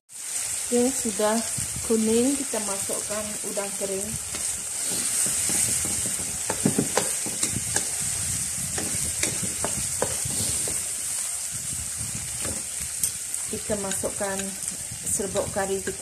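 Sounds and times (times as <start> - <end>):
paste sizzling in hot oil: 0.1 - 16.0
wooden spatula scraping wok: 1.2 - 16.0.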